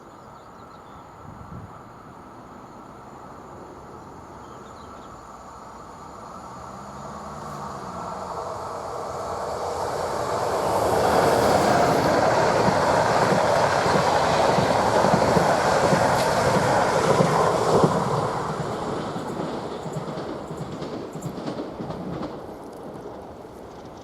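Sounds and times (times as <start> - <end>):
train passing: 0.6 - 24.0.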